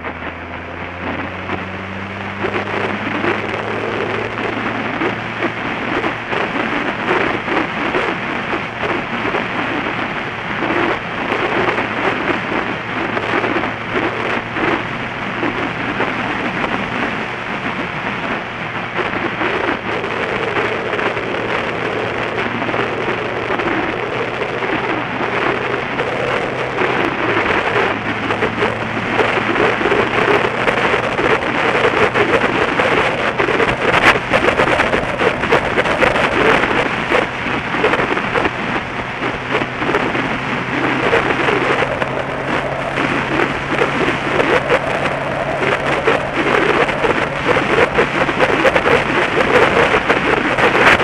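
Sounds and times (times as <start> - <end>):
motorcycle engine drone: 0.0 - 51.0
wind on microphone: 0.0 - 51.0.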